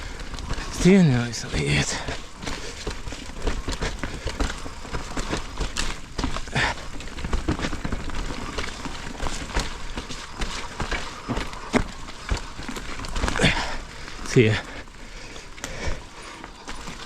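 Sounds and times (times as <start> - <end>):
bike clattering over bumps: 0.0 - 17.0
bike tyre rumble: 0.0 - 17.0.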